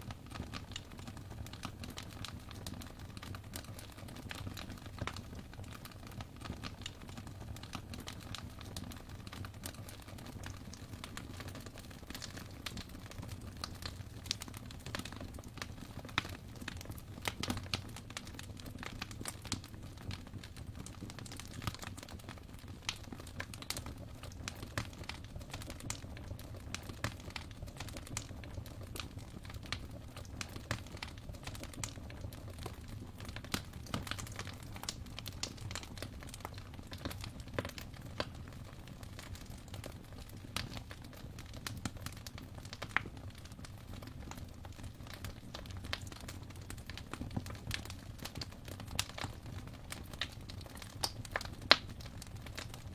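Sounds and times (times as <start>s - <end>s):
fireplace fire crackling: 0.0s - 52.9s.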